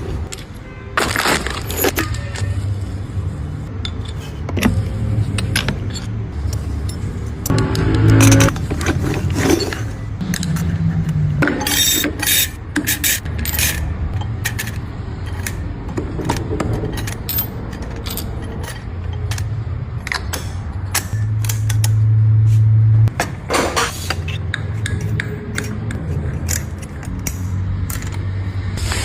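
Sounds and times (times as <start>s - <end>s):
metal parts scraping and knocking: 0.0s - 28.8s.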